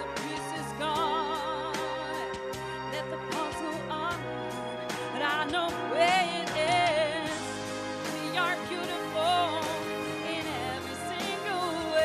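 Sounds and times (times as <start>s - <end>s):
woman singing into a microphone: 0.0s - 4.3s, 5.1s - 12.0s
instrumental accompaniment: 0.0s - 12.0s.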